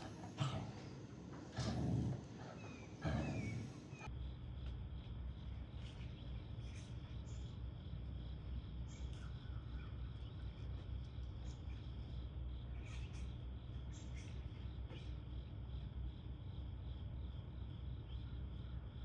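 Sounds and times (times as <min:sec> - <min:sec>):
continuous low rumble: 0:00.0 - 0:19.0
insects chirring: 0:00.0 - 0:19.0.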